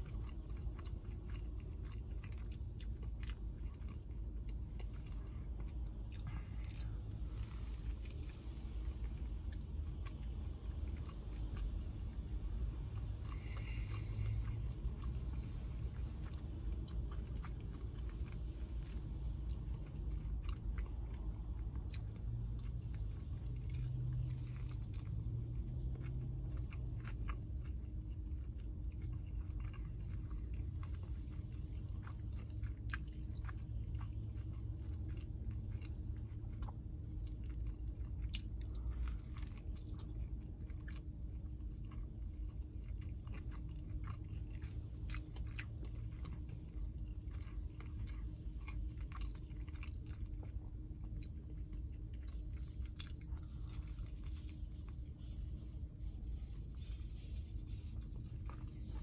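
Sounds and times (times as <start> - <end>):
person chewing with crunches: 0.0 - 59.0
steady low hum: 0.0 - 59.0.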